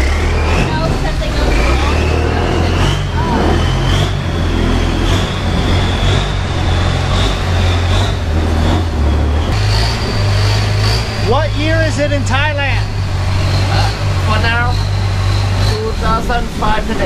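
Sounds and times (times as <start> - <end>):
boat engine running: 0.0 - 17.0
thin high whine: 0.0 - 17.0.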